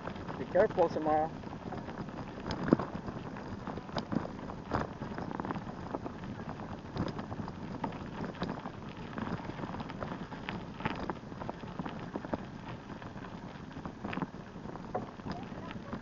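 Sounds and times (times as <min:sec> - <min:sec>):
bicycle tyres rolling on rough surface: 0:00.0 - 0:16.0.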